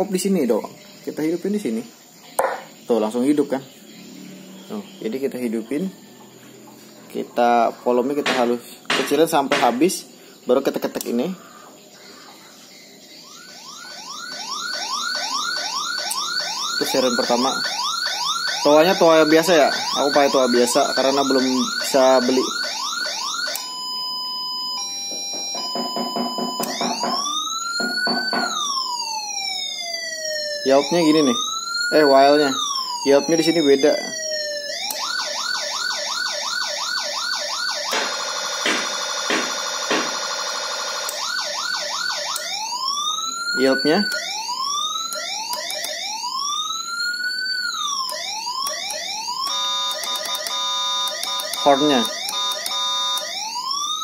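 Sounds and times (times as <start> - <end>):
electronic siren: 0.0 - 10.1, 12.5 - 54.0.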